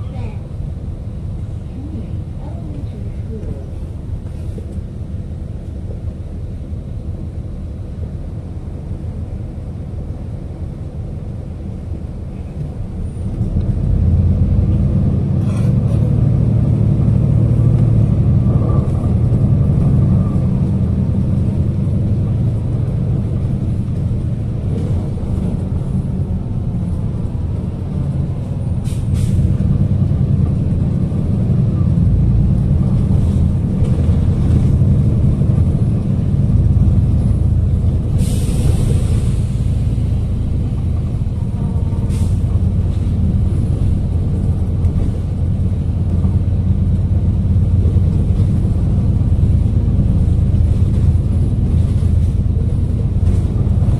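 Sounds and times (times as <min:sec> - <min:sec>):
bus engine rumble: 0:00.0 - 0:53.9.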